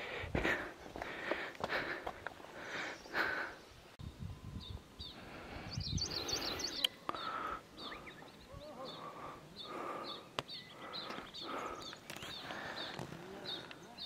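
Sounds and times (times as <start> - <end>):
small birds chirping: 0.0 - 14.0
steady outdoor hiss: 0.0 - 14.0.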